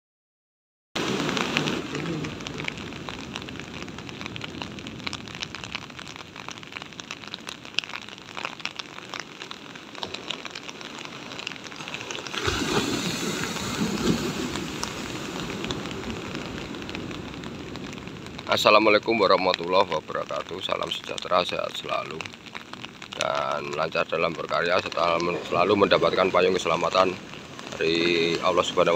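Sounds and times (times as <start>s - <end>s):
surf breaking on shore: 1.0s - 6.0s, 7.3s - 28.9s.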